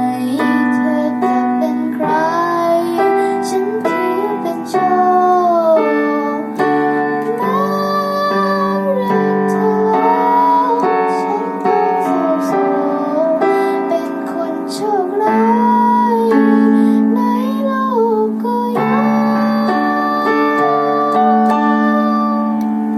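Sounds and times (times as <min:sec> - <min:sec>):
piano accompaniment: 0:00.0 - 0:22.9
woman singing: 0:00.0 - 0:22.9.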